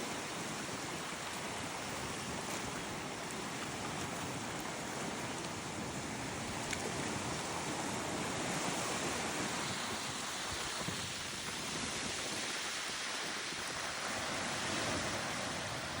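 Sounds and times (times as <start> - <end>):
lake waves: 0.0 - 16.0
wind buffeting microphone: 0.2 - 16.0.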